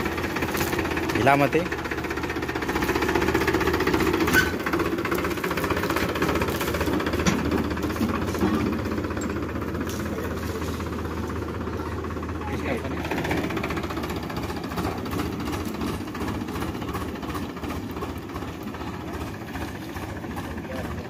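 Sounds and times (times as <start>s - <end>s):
tractor diesel engine knocking: 0.0s - 21.0s.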